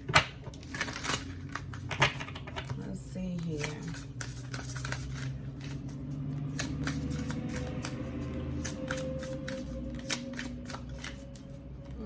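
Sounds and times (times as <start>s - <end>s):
cards being shuffled: 0.1s - 2.8s, 3.4s - 12.0s.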